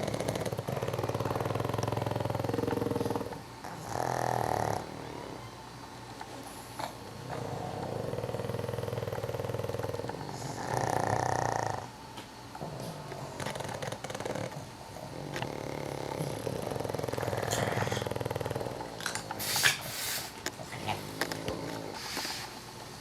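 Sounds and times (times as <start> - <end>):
dogs snoring: 0.0 - 22.7.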